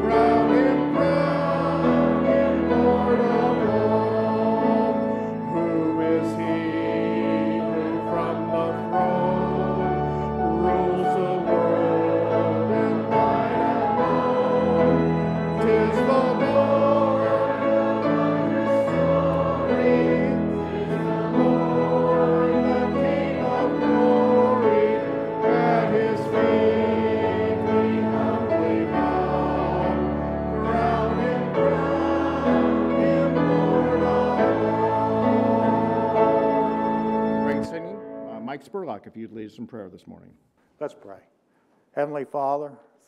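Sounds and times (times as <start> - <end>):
congregation singing a hymn: 0.0 - 38.0
instrumental accompaniment: 0.0 - 39.0.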